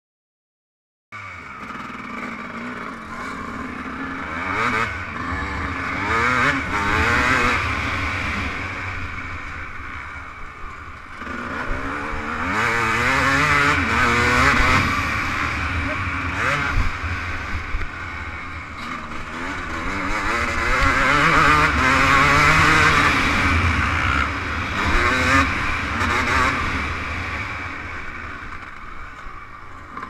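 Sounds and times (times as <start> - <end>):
motocross engine revving: 1.2 - 28.4.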